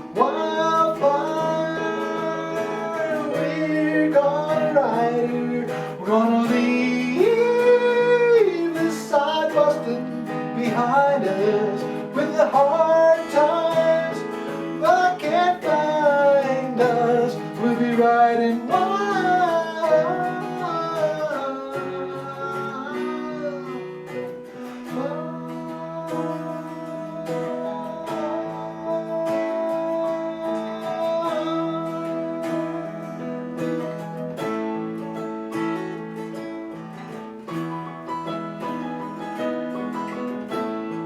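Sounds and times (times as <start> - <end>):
country acoustic guitar music: 0.0 - 41.0.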